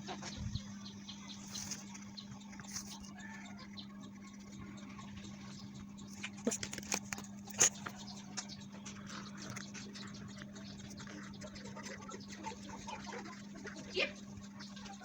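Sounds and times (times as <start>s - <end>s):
low electrical hum: 0.0s - 15.0s
small clicks and scratches: 1.4s - 13.8s.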